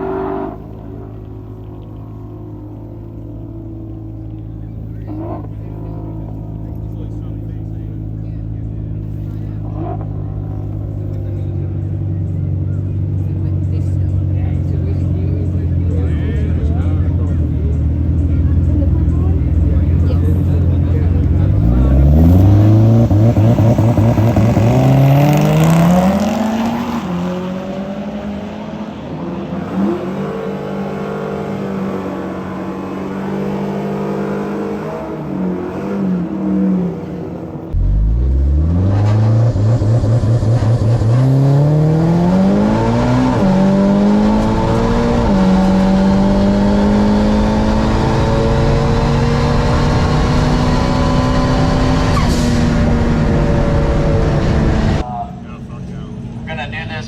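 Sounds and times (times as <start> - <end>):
drag racing car engine accelerating: 0.0 - 57.0.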